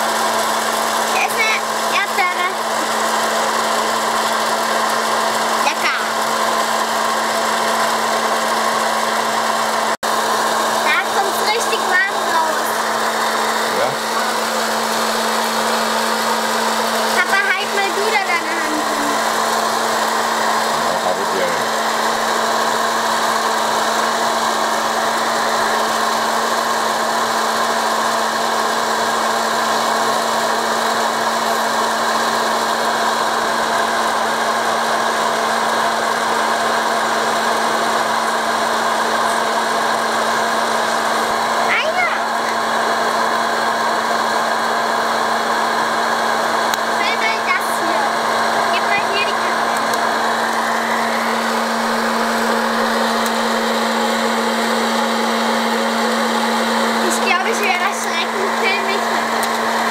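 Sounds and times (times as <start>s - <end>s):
popcorn maker fan humming: 0.0s - 59.9s.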